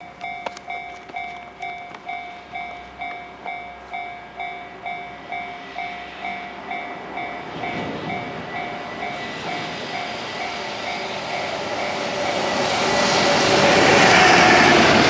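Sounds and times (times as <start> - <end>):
level crossing warning bell: 0.0 - 13.2
freight train rushing noise: 0.0 - 15.0.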